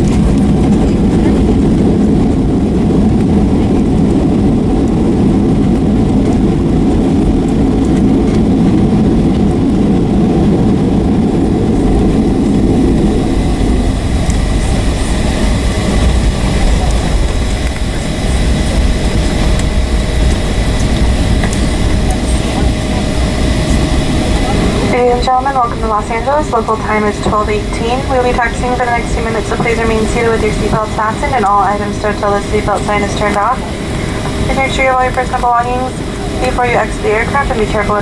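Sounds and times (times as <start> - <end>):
airplane rumbling on runway: 0.0 - 38.0
faint jet engine whine: 0.0 - 38.0.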